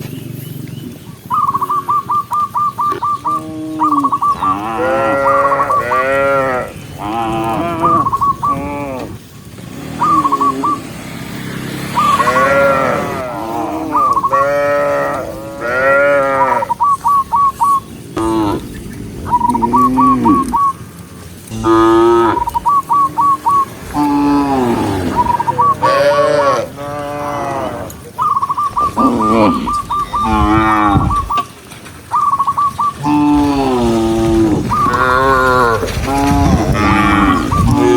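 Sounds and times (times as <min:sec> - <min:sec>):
cows mooing: 0:02.9 - 0:17.5, 0:18.2 - 0:20.8, 0:21.4 - 0:31.4, 0:32.9 - 0:37.9.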